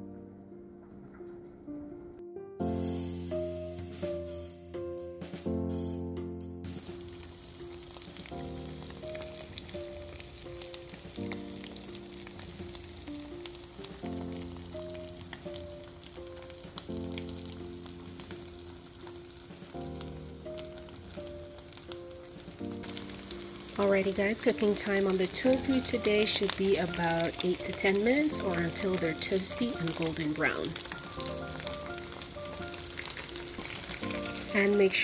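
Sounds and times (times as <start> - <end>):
soft background music: 0.0 - 35.0
tofu sizzling in oil: 6.8 - 35.0.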